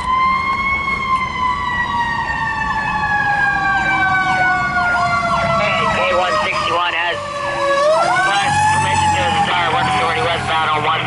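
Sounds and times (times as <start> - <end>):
siren wailing: 0.0 - 11.0
siren yelping: 0.0 - 11.0.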